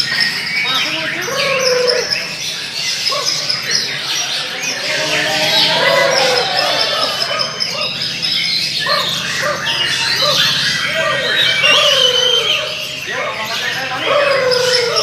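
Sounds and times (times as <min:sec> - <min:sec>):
birds singing whistles and trills: 0:00.0 - 0:15.0
murmur of voices: 0:00.0 - 0:15.0.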